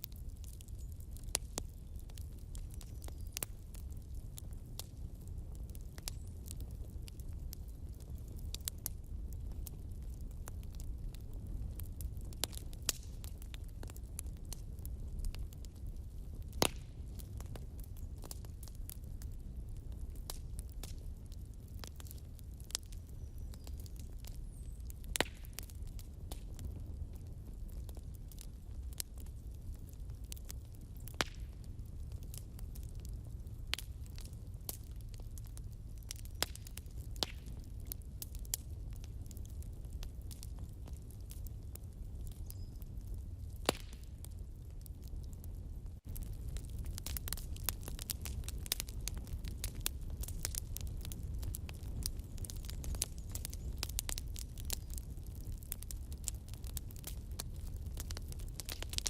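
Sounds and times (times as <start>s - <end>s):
fire popping: 0.0s - 59.0s
logs crackling in fire: 0.0s - 59.0s
low rumble of flames: 0.0s - 59.0s.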